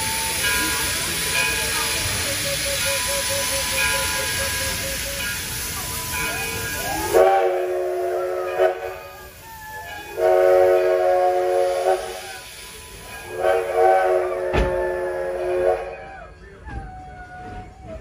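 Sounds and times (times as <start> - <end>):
escaping steam hissing: 0.0 - 16.0
steam locomotive chime whistle: 0.0 - 18.0.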